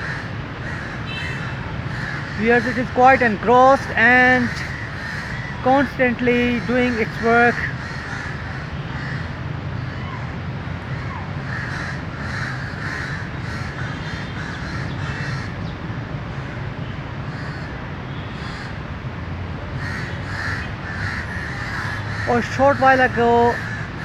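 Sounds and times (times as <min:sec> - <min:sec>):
crows cawing: 0:00.0 - 0:18.8, 0:19.8 - 0:24.0.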